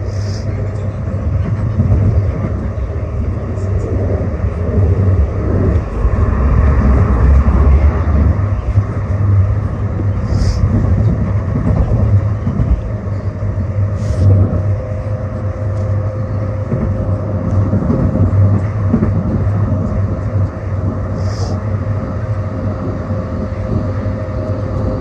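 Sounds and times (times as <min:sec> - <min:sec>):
light-rail car rumbling on track: 0:00.0 - 0:25.0.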